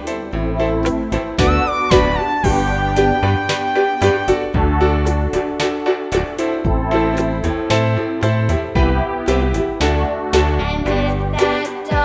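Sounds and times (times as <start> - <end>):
cheerful children's music: 0.0 - 12.0.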